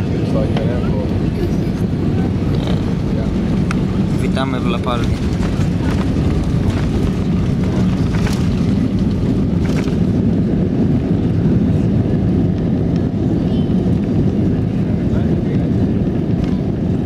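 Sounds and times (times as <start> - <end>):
jet cabin roar on landing: 0.0 - 17.0.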